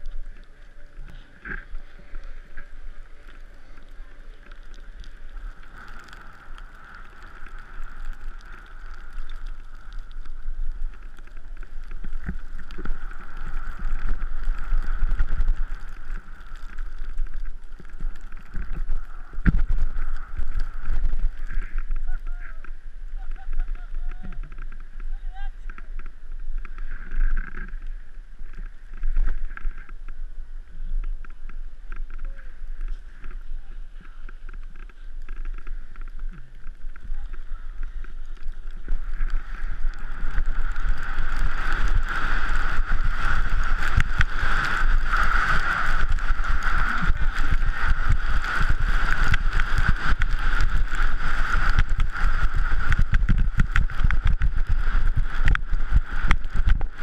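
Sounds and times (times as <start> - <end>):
skis scraping on snow: 0.0 - 22.6, 31.2 - 57.0
wind rushing over camera: 0.0 - 57.0.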